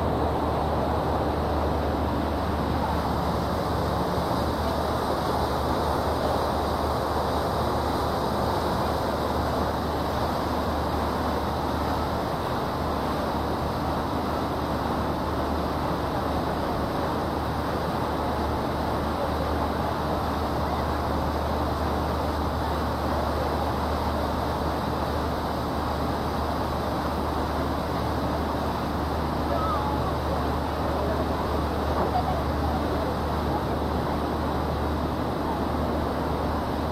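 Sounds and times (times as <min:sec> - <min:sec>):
boat engine drone: 0:00.0 - 0:36.9
water rushing: 0:00.0 - 0:36.9.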